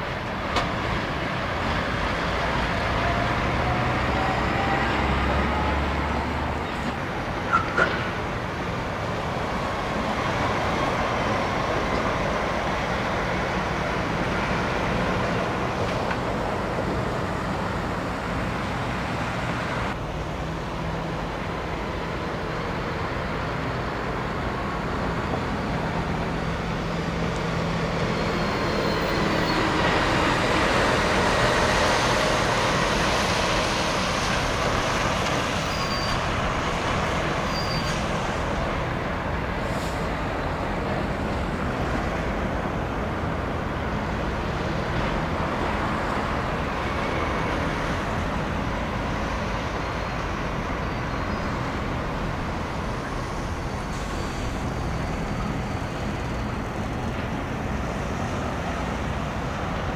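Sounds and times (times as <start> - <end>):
road traffic noise: 0.0 - 59.9
truck diesel engines passing: 0.0 - 59.9.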